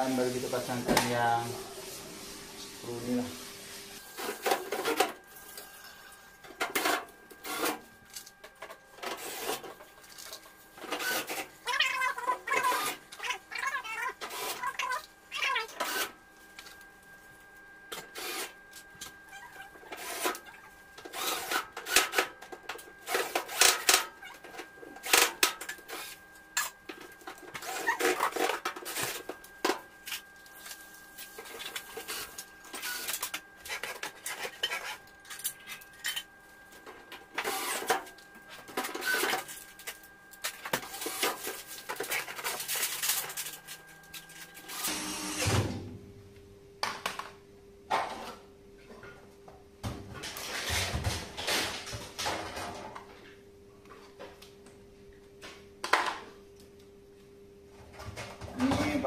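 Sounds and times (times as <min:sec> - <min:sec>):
faint steady hum: 0:00.0 - 0:50.5.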